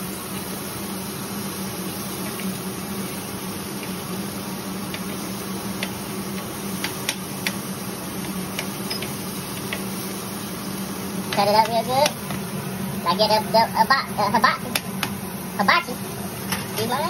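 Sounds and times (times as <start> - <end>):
kitchen hiss and hum: 0.0 - 17.0.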